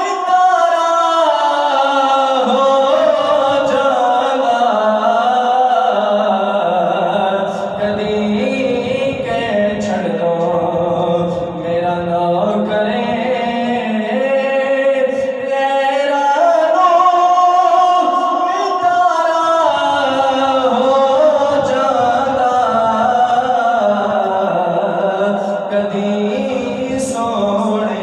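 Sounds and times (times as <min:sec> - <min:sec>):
man singing devotional melody: 0:00.0 - 0:28.0.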